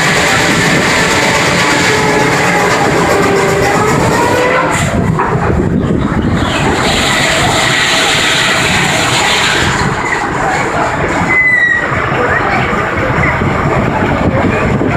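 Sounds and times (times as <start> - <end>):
sawmill machinery running: 0.0 - 14.9.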